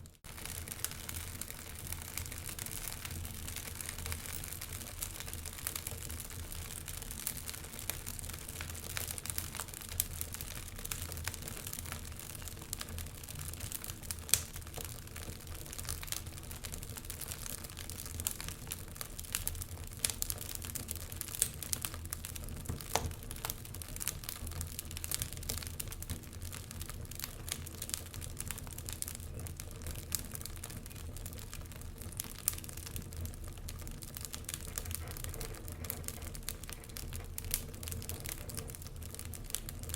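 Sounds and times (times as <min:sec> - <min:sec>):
fire rumbling: 0:00.0 - 0:39.9
wood fire crackling: 0:00.0 - 0:39.9.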